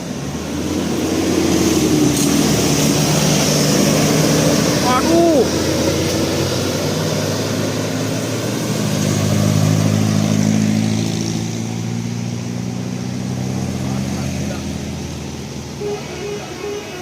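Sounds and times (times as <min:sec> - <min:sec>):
bus engine humming: 0:00.0 - 0:17.0
road noise: 0:00.0 - 0:17.0.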